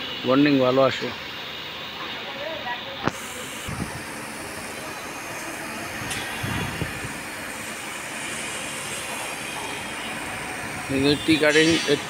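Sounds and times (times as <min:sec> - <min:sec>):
high-pressure water jet hissing: 0:00.0 - 0:12.0.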